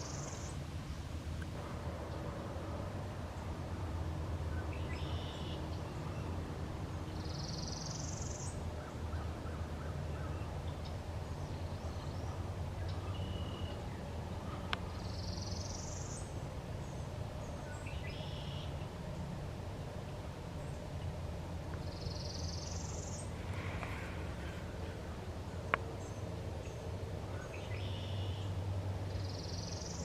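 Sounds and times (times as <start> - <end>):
steady low rumble: 0.0 - 27.8
high buzzy birdsong: 0.0 - 30.0.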